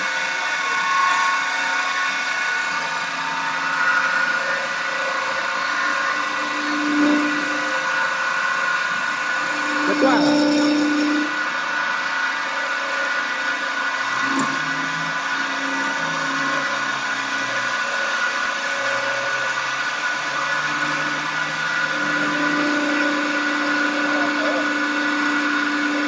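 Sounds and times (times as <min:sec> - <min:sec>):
woodturning machine whining: 0:00.0 - 0:26.0.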